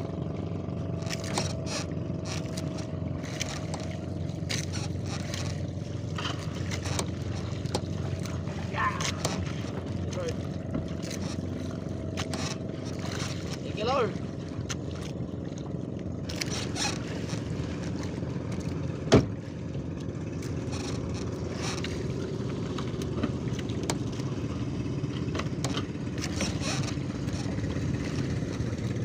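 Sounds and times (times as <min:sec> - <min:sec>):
boat engine running: 0:00.0 - 0:29.0
gear scraping against hull: 0:00.9 - 0:15.2, 0:16.2 - 0:19.4, 0:20.0 - 0:29.0.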